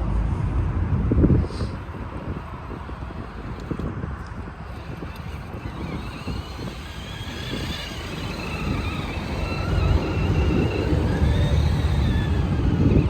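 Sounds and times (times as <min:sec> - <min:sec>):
wind rumble on microphone: 0:00.0 - 0:13.0
rc truck motor whine: 0:01.2 - 0:13.0.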